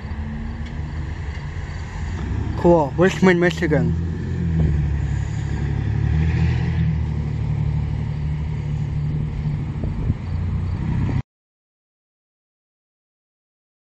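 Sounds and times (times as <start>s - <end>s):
engines humming: 0.0s - 11.2s.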